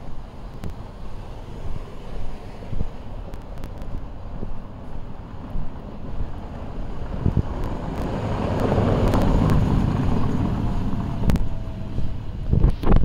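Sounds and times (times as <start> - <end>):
car driving over cobblestones: 0.0 - 13.0.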